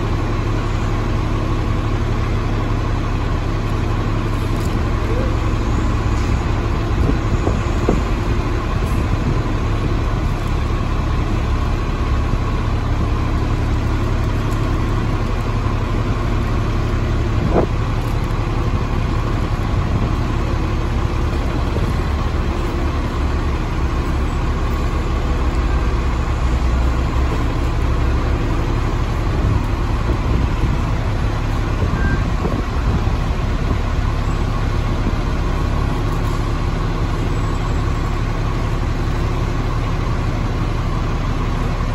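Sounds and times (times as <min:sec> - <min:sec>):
diesel bus idling: 0:00.0 - 0:41.9.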